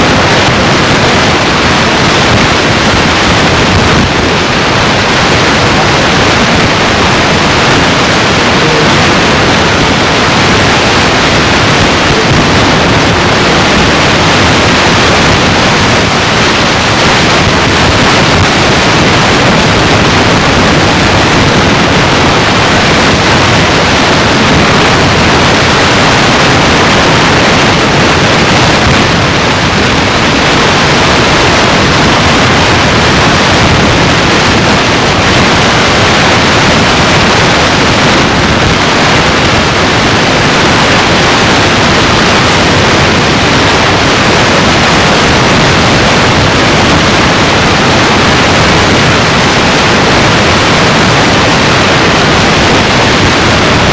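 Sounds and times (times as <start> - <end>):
static hiss: 0.0 - 53.9.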